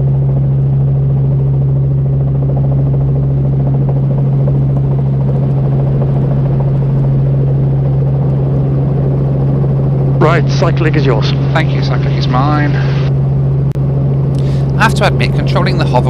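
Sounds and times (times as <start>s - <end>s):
helicopter engine and rotors droning: 0.0s - 16.0s.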